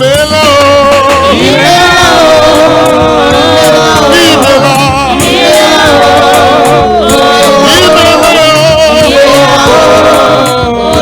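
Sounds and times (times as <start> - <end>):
bass line: 0.0 - 11.0
gospel singing: 0.0 - 11.0.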